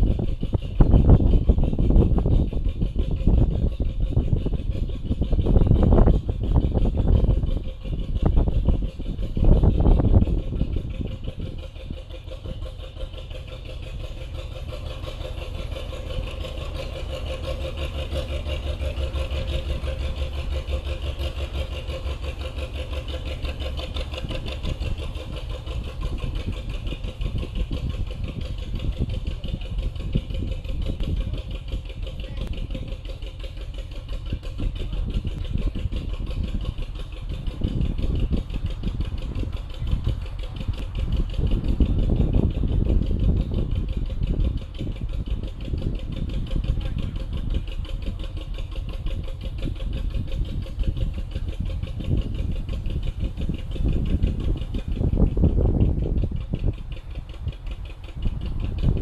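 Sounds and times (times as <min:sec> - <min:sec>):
boat diesel engine chugging: 0:00.0 - 0:59.0.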